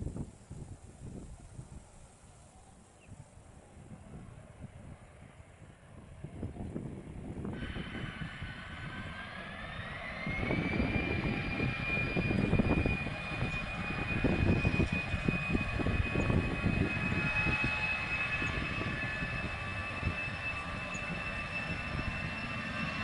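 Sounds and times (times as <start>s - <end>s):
jet engine whine rising: 0.2s - 23.0s.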